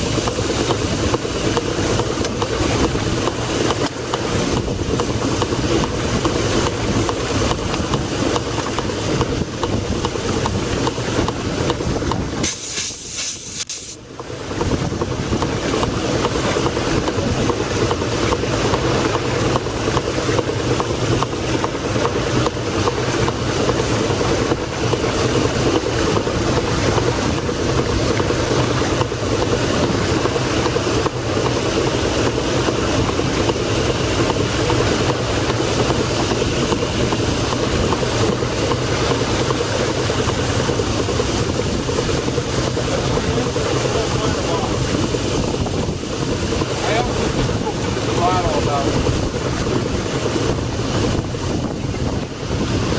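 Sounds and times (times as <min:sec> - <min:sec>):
steam engine running: 0:00.0 - 0:52.9.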